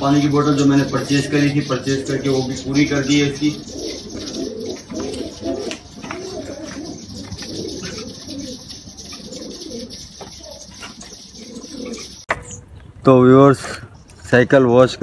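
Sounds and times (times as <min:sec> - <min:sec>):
pigeons cooing: 0:00.0 - 0:12.7.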